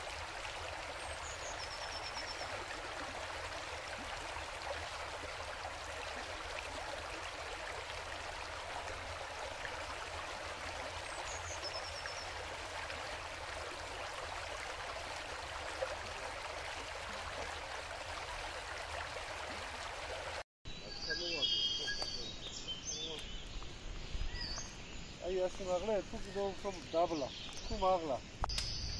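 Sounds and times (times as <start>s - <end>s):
running water rushing: 0.0s - 20.4s, 21.0s - 28.9s.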